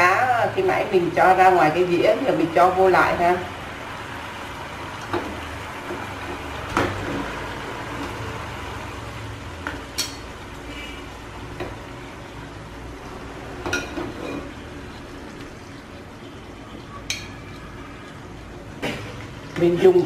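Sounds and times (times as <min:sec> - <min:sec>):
sauce sizzling in frying pan: 0:00.1 - 0:20.0.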